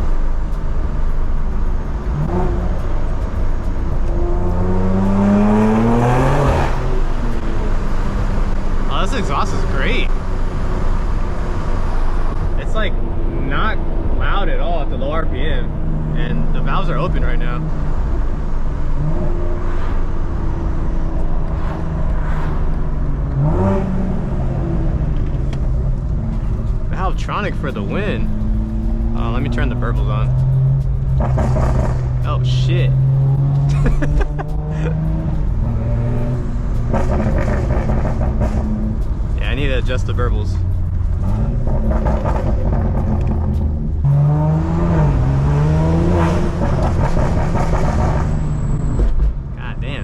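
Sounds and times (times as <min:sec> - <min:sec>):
car engine and exhaust accelerating: 0:00.0 - 0:50.0.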